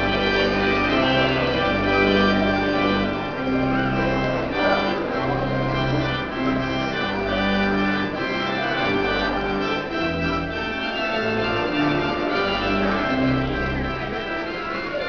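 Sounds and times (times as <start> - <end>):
organ playing chords: 0.0 - 15.0.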